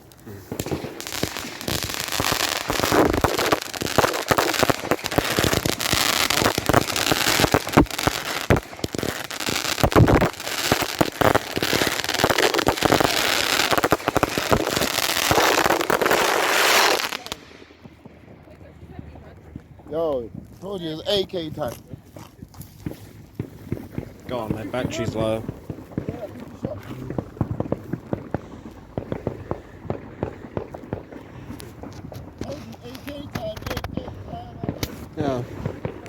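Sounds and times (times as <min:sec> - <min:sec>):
rapid firework bangs and crackles: 0:00.0 - 0:36.0.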